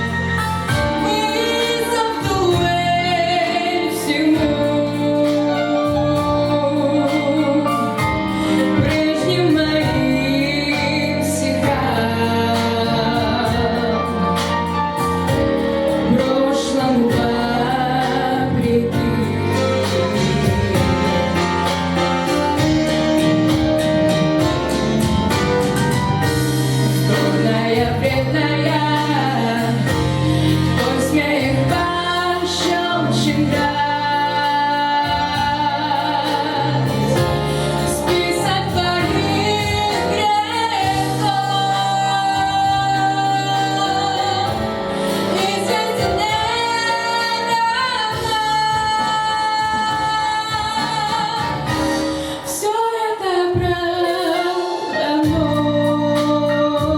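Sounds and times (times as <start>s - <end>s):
instrumental accompaniment: 0.0s - 56.9s.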